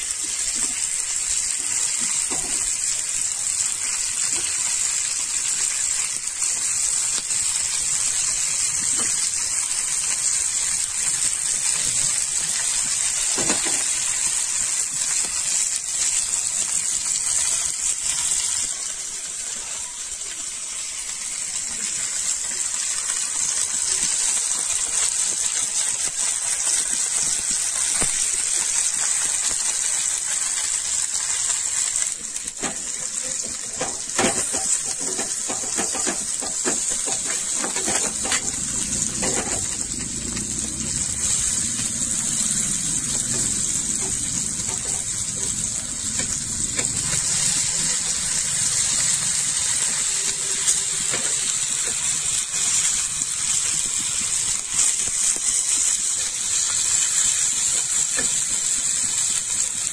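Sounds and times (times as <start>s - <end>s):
okra sizzling in oil: 0.0s - 59.9s.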